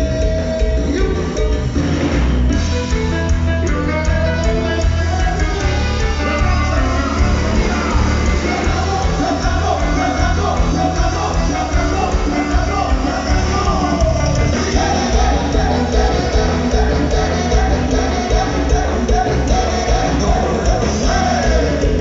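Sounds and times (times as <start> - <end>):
heavy bass: 0.0 - 22.0
live dance band with horns: 0.0 - 22.0.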